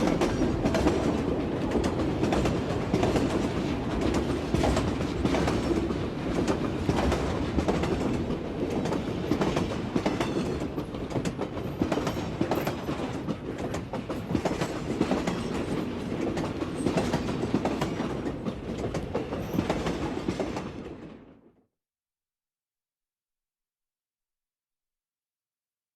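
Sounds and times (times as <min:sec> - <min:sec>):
train wheels clicking and rattling: 0:00.0 - 0:21.2
train rumble inside carriage: 0:00.0 - 0:21.4.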